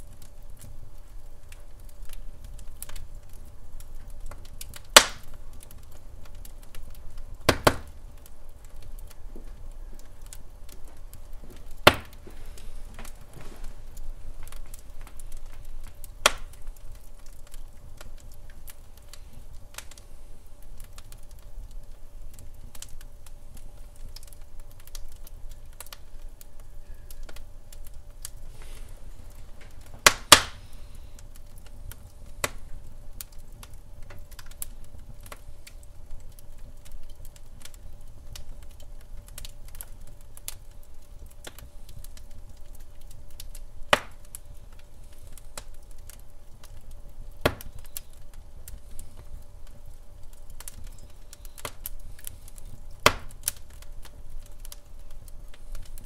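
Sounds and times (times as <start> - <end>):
logs crackling in a fireplace: 0.0 - 56.0.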